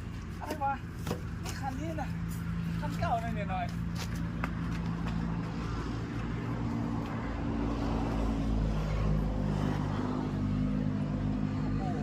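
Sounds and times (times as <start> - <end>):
engine droning hum: 0.0 - 12.0.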